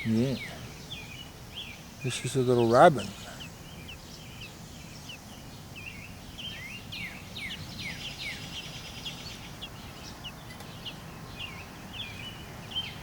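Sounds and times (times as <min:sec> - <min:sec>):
baby bird begging chirps: 0:00.0 - 0:13.0
steady low hum: 0:00.0 - 0:13.0.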